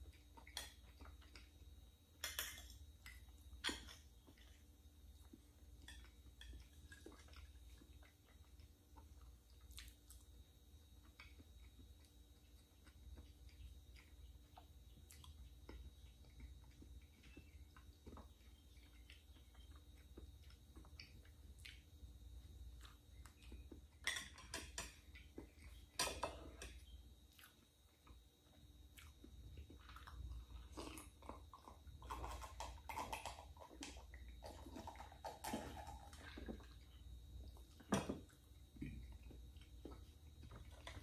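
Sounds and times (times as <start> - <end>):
quiet chewing and mouth sounds: 0.0 - 41.0.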